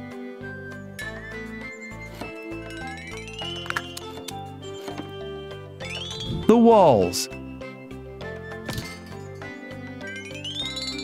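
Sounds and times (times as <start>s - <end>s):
light background music: 0.0s - 11.0s.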